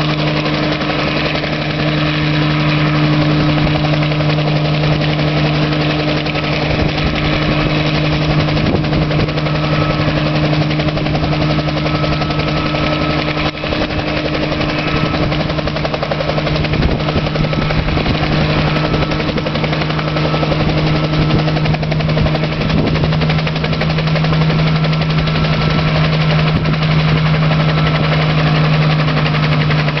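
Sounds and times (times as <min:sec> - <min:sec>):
helicopter hovering: 0:00.0 - 0:30.0.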